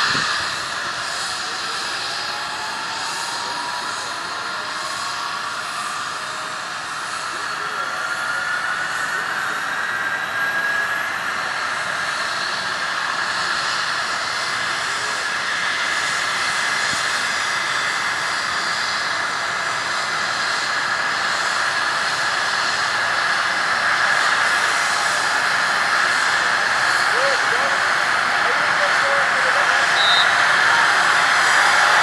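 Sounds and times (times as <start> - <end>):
helicopter turbines whining: 0.0 - 32.0.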